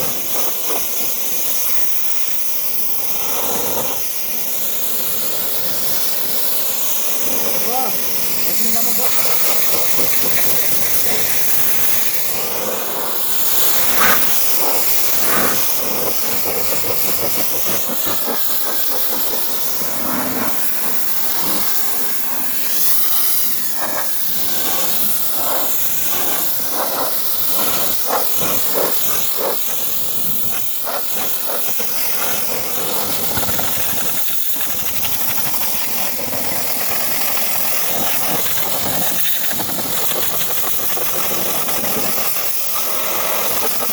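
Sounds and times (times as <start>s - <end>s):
high-pressure cleaning jet hissing: 0.0s - 43.9s.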